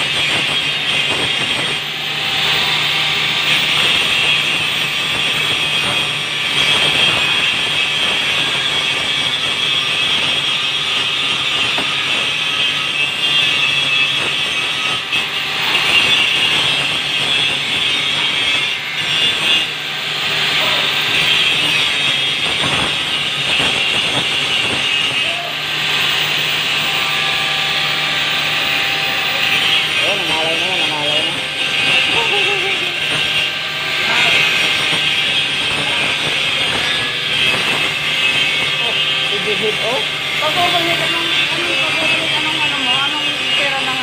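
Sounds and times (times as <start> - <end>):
angle grinder grinding steel: 0.0 - 44.0.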